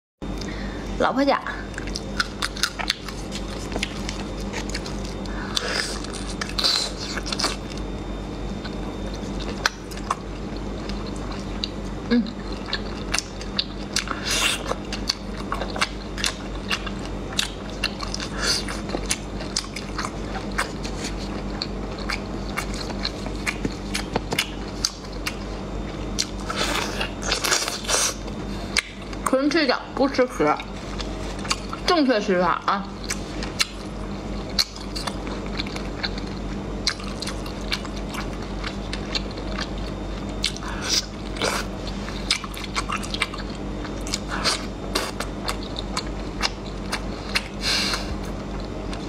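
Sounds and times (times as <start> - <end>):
person biting and chewing: 1.8 - 8.0, 8.6 - 29.3, 30.8 - 31.8, 33.0 - 49.0.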